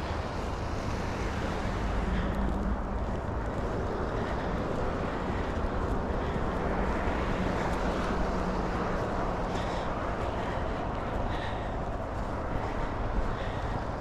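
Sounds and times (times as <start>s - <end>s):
low engine hum: 0.0s - 14.0s
road traffic rumble: 0.0s - 14.0s.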